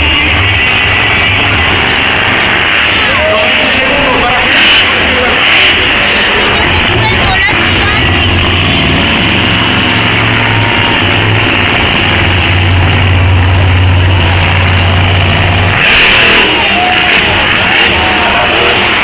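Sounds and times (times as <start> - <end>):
monster truck engine running: 0.0 - 19.0.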